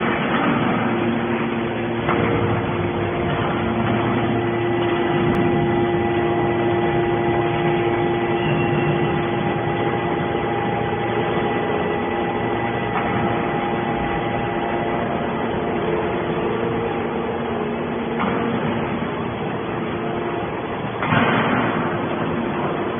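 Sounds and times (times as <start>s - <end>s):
scrap baler mechanical hum: 0.0s - 22.9s.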